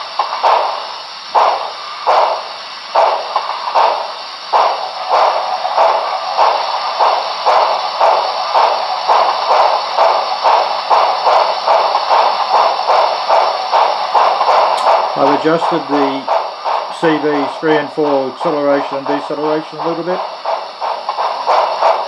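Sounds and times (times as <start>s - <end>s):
model steam locomotive chuffs: 0.0s - 22.0s.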